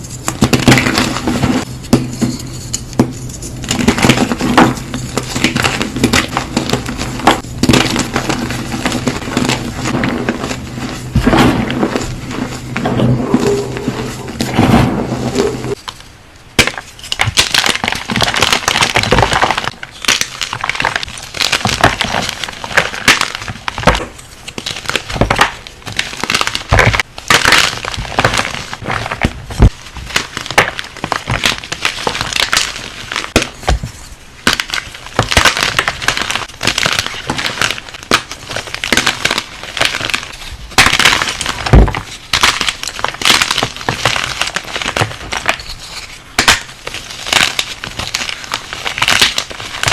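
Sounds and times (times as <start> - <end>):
brittle material crunching: 3.2 - 16.0, 16.6 - 49.9.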